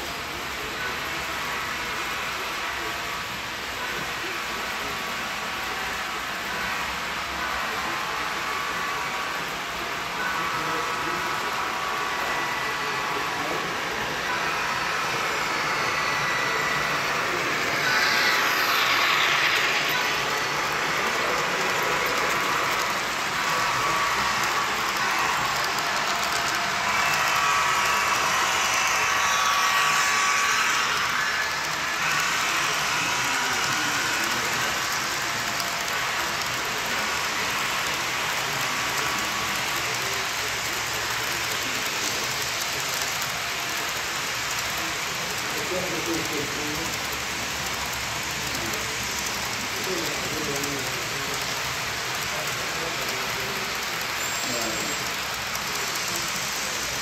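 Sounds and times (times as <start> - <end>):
model train motor whir: 0.1 - 57.0.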